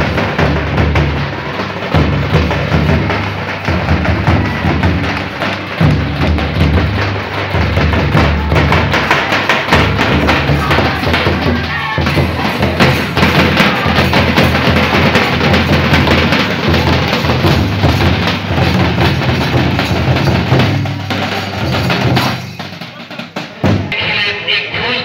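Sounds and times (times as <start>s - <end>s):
drums beaten in dense rhythm: 0.0s - 25.0s.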